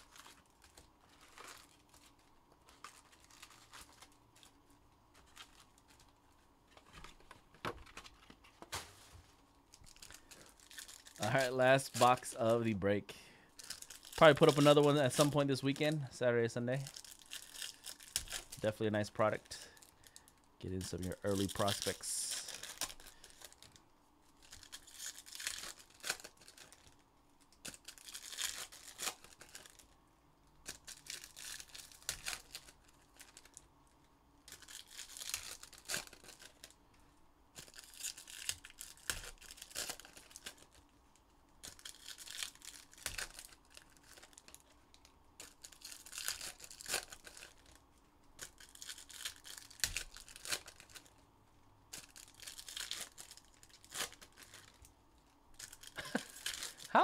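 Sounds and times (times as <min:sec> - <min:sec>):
foil wrappers tearing and crinkling: 0:00.0 - 0:12.7, 0:13.6 - 0:16.1, 0:16.7 - 0:29.9, 0:30.6 - 0:33.7, 0:34.4 - 0:36.8, 0:37.5 - 0:51.2, 0:51.9 - 0:54.9, 0:55.5 - 0:57.0.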